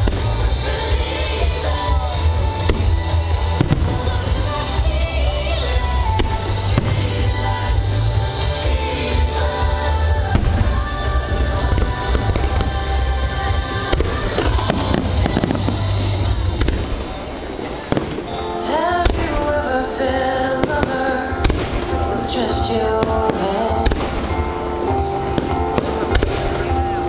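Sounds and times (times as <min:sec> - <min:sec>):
music with strong bass: 0:00.0 - 0:17.3, 0:18.0 - 0:27.0
fireworks bangs and crackles: 0:00.0 - 0:27.0.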